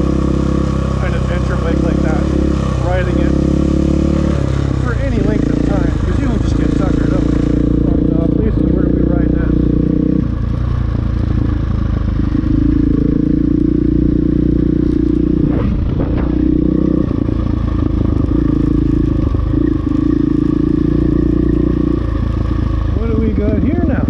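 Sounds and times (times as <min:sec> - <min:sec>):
dirt bike engine: 0:00.0 - 0:24.0.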